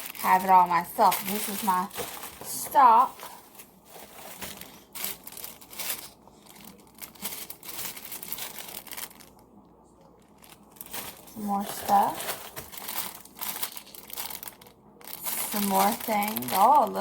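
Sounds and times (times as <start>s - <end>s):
jewelry packaging crinkling: 0.0s - 9.4s, 10.3s - 17.0s.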